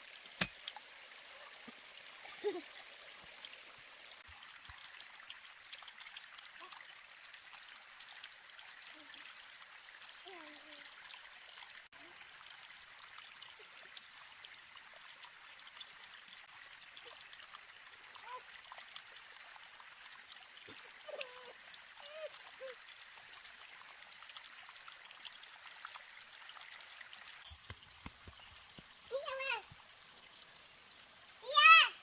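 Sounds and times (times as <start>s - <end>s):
faint trickle of running water: 0.0s - 32.0s.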